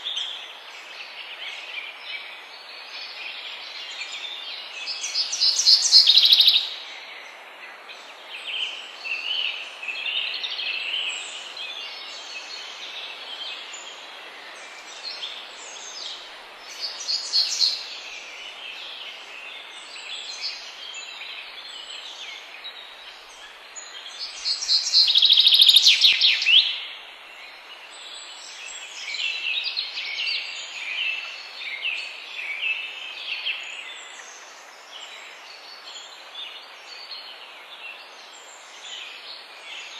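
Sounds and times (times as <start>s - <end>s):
background hiss: 0.0s - 39.9s
songbirds singing: 0.0s - 39.9s.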